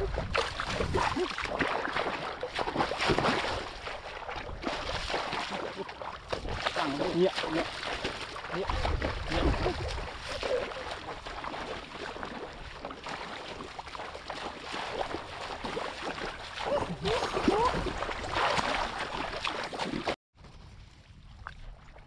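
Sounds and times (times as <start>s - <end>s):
muddy water splashing and sloshing: 0.0s - 22.0s.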